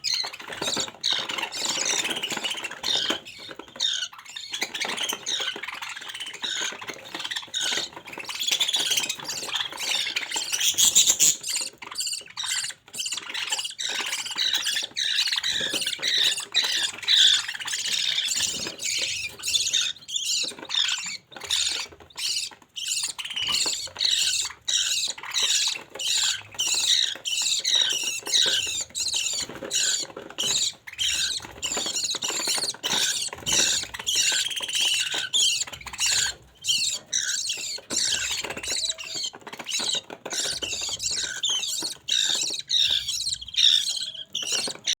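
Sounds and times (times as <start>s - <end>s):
budgerigar chicks chirping: 0.0s - 45.0s.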